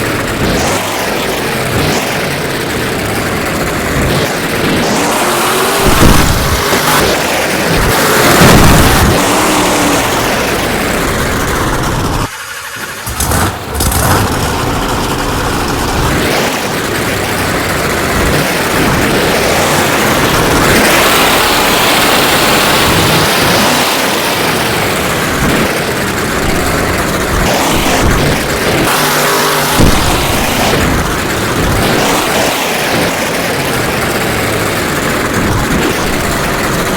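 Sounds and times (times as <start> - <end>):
monster truck engine revving: 0.0 - 36.9.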